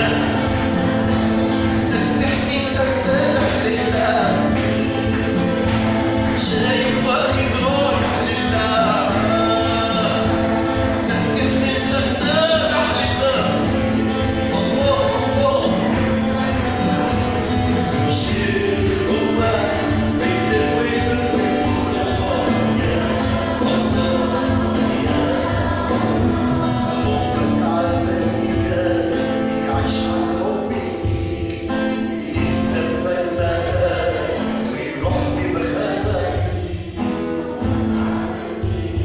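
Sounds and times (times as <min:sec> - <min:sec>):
choir singing a hymn: 0:00.0 - 0:39.0
instrumental accompaniment with beat: 0:00.0 - 0:39.0
man singing: 0:00.0 - 0:39.0.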